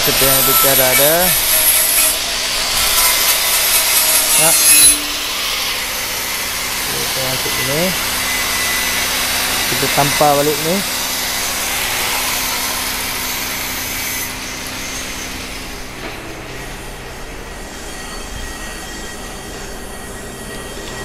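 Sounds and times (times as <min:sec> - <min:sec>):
loud machine hiss: 0:00.0 - 0:21.0.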